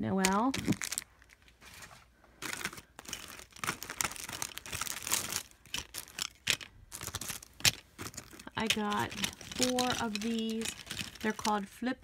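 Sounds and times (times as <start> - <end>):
plastic packaging crinkling: 0.2 - 11.7.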